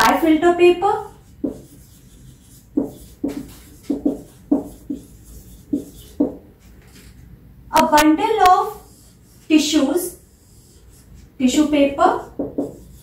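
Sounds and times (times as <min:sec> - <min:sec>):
marker pen writing on whiteboard: 0:00.0 - 0:13.0.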